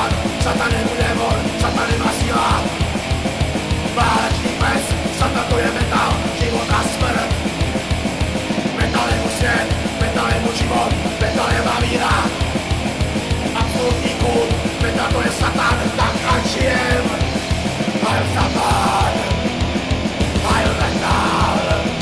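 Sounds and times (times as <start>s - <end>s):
fast kick drum beats: 0.0s - 22.0s
harsh shouted vocals: 0.0s - 22.0s
metal song: 0.0s - 22.0s.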